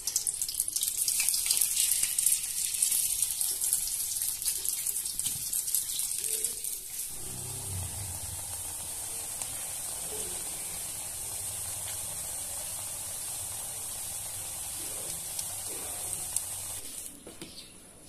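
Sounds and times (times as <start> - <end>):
meat sizzling in a pan: 0.1 - 17.1.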